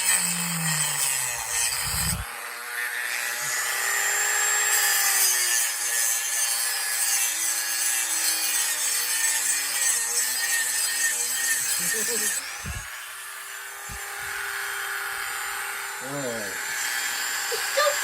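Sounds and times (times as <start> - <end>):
power tool grinding wood: 0.0 - 18.0.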